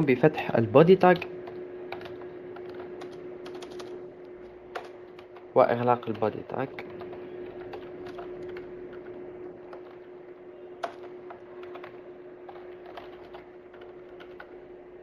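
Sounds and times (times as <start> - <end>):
steady low hum: 0.0 - 15.0
keyboard keystrokes: 1.4 - 10.1, 10.8 - 14.6.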